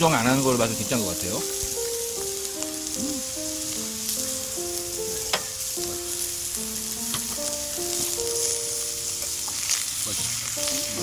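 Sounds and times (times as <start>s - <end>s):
light background music: 0.0s - 11.0s
meat sizzling on grill plate: 0.0s - 11.0s.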